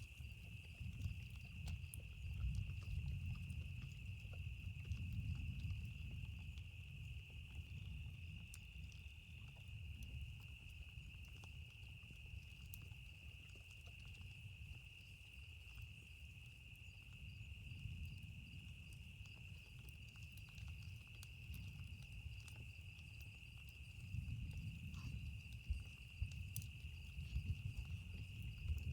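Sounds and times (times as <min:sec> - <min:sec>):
campfire crackles: 0:00.0 - 0:28.9
insect trill: 0:00.0 - 0:28.9.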